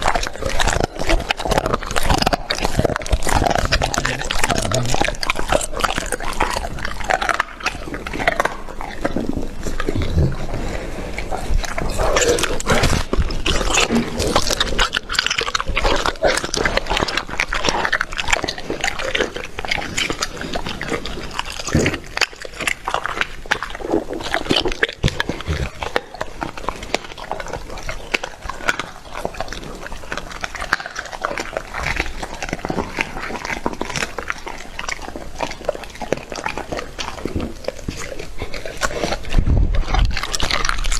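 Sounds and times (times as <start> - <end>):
dog chewing raw meat: 0.0 - 40.9.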